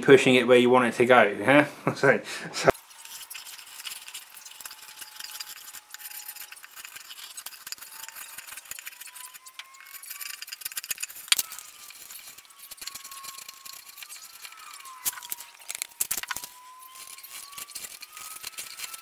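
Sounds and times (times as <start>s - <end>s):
knife whittling wood: 2.7s - 19.0s.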